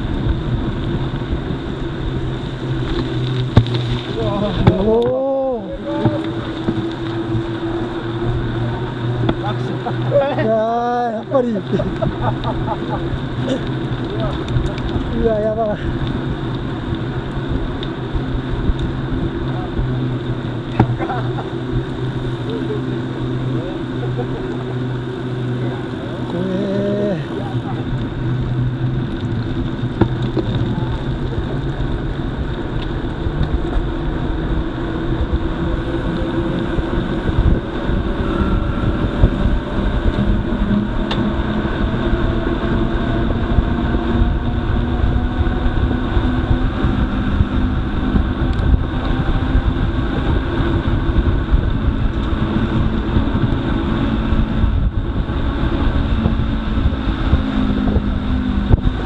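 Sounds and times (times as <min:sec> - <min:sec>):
wind on microphone: 0:00.0 - 0:10.3, 0:11.7 - 0:59.0
low steady hums: 0:00.0 - 0:59.0
tyres rolling on rough surface: 0:00.1 - 0:54.3.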